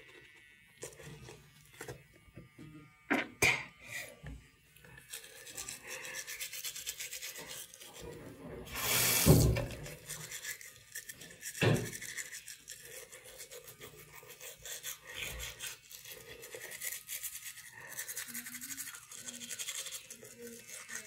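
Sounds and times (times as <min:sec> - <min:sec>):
toothbrush scrubbing teeth: 0:00.0 - 0:02.1, 0:03.4 - 0:21.0.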